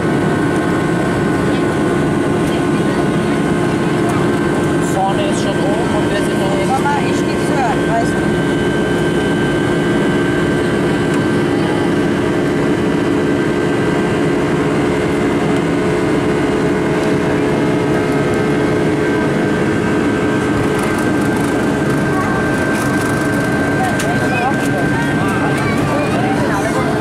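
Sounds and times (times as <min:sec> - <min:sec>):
constant whining tones: 0:00.0 - 0:27.0
jet engines droning: 0:00.0 - 0:27.0.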